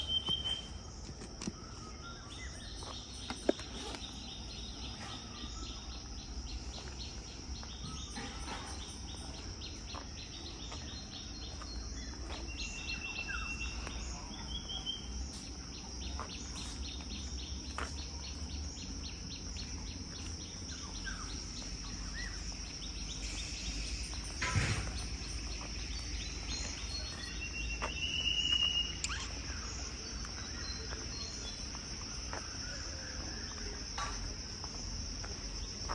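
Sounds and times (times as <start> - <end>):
insect chorus drone: 0.0 - 35.9.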